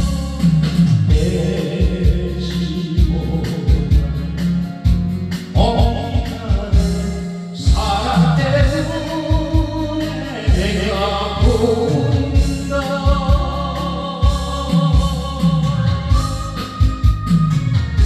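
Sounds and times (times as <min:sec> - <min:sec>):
backing track bass beat: 0:00.0 - 0:18.0
person singing karaoke: 0:00.0 - 0:18.0.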